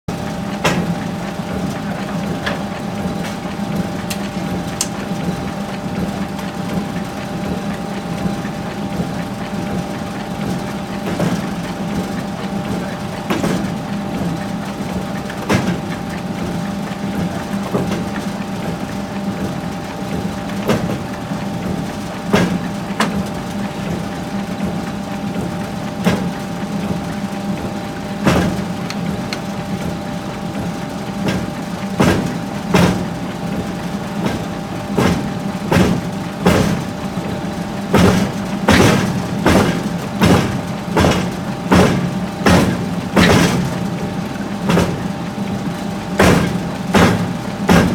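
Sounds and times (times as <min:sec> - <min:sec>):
machinery hum: 0:00.1 - 0:47.9.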